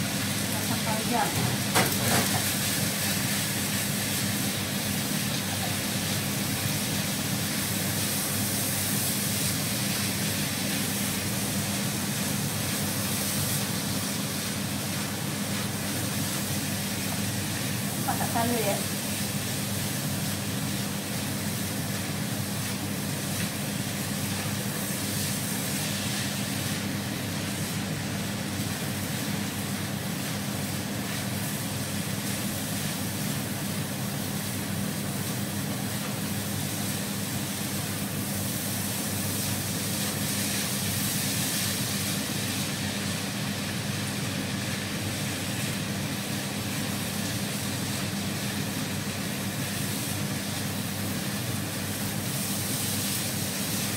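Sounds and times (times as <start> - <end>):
fan hum and hiss: 0.0 - 53.9
rice stir-frying in a wok: 0.0 - 53.9.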